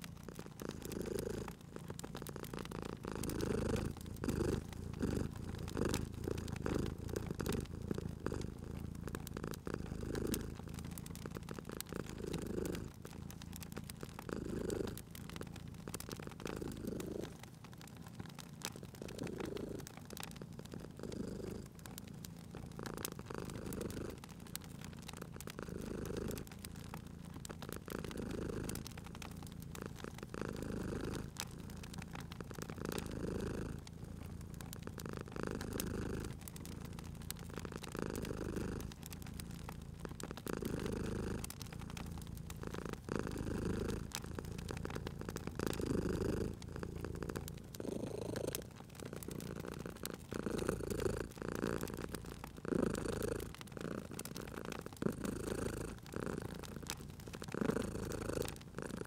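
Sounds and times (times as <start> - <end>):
cat purring: 0.0 - 59.0
log fire crackling and popping: 0.0 - 59.0.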